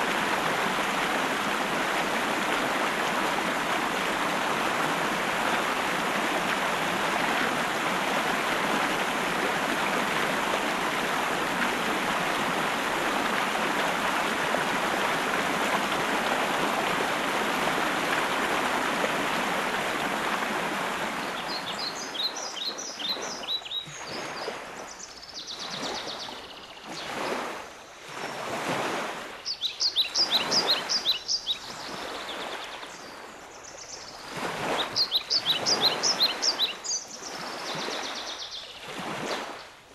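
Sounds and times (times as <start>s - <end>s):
rushing water: 0.0s - 39.9s
water surges: 0.0s - 39.9s.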